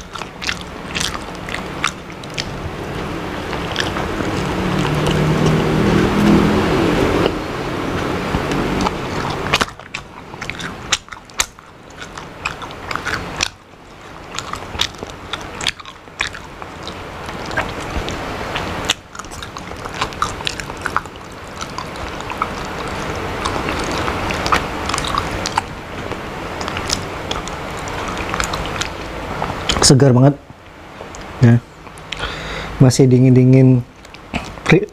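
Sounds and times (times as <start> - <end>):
mouth clicks: 0.0 - 29.9, 31.0 - 32.7, 33.9 - 34.9
wet chewing and biting: 0.0 - 30.0, 31.0 - 32.3, 33.9 - 34.9.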